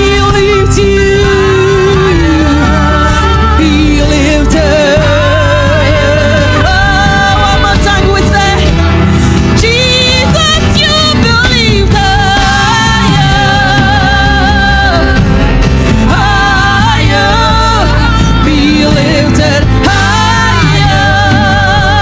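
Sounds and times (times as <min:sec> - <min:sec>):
band playing gospel music: 0:00.0 - 0:22.0
person singing: 0:00.0 - 0:22.0.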